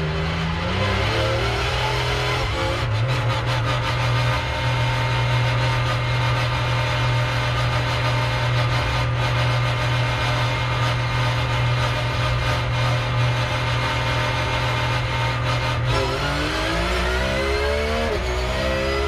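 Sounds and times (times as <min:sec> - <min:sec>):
race car engine running: 0:00.0 - 0:19.0.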